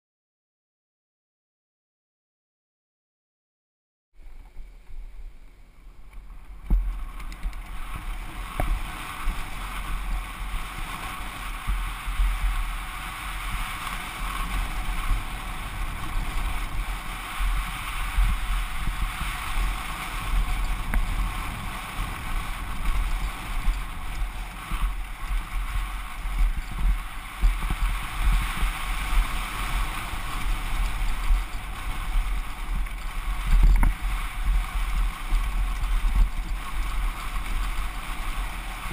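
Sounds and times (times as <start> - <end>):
bike tyres rattling on loose dirt: 4.2 - 38.9
wind buffeting microphone: 6.0 - 38.9.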